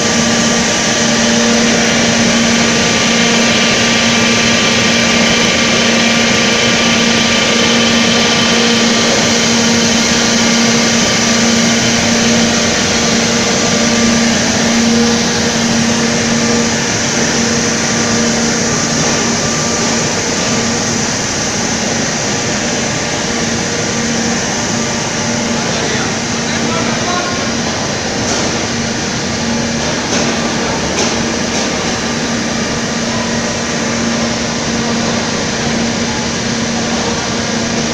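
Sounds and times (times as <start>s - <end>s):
industrial blowers droning: 0.0s - 37.9s.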